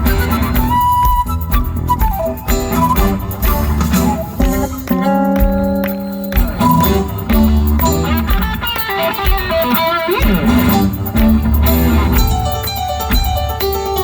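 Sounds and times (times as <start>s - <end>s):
bass guitar: 0.0s - 14.0s
drums: 0.0s - 14.0s
electric guitar riffing: 1.7s - 14.0s.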